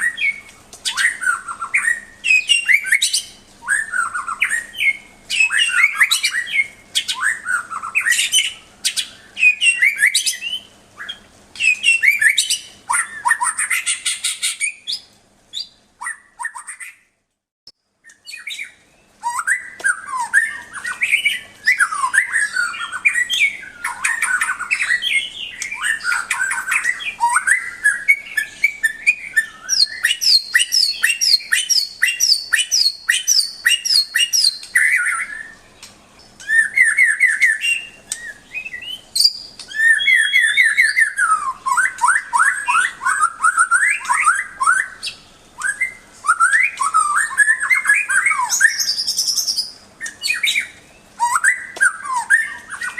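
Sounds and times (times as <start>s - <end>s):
bird singing whistles and trills: 0.0s - 17.1s, 18.0s - 52.9s.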